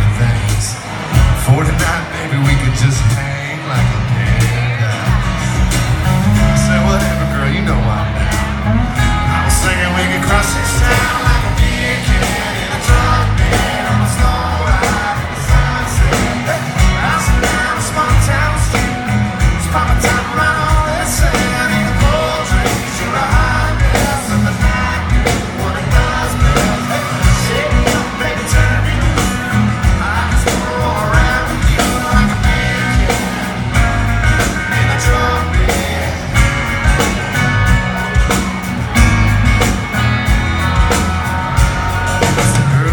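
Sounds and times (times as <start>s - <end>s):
country rock band playing: 0.0s - 42.9s
drums: 0.0s - 42.9s
person singing: 6.1s - 38.6s, 40.3s - 42.9s.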